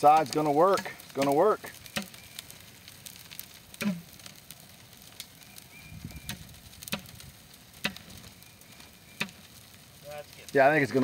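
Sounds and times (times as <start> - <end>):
brush fire crackling: 0.0 - 11.0.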